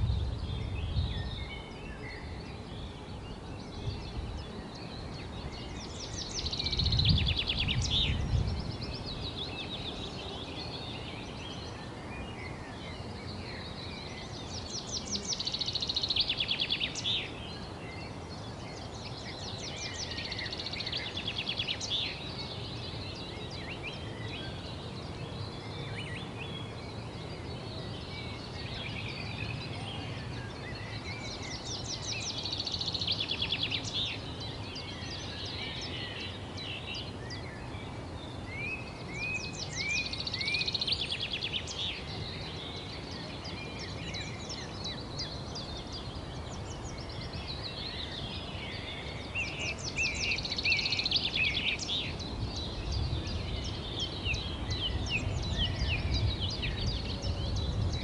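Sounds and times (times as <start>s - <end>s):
birds singing trills: 0.0s - 58.0s.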